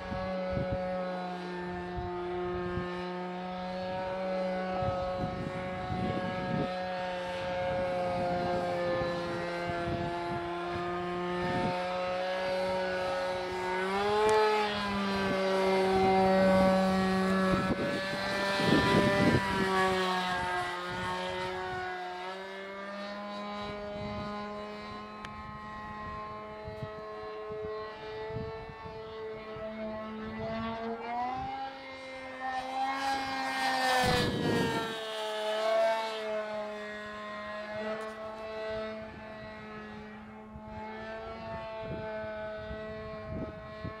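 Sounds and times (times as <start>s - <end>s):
model airplane engine buzzing: 0.0s - 44.0s.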